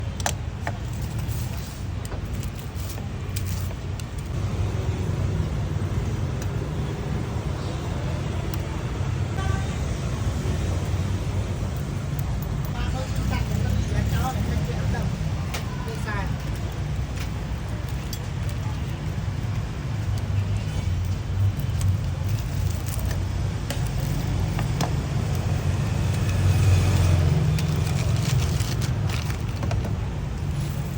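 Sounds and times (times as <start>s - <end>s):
street traffic rumbling: 0.0s - 30.9s.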